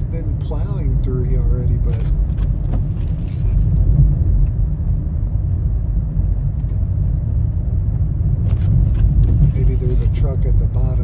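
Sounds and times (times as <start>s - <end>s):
car driving on snowy road: 0.0s - 11.0s.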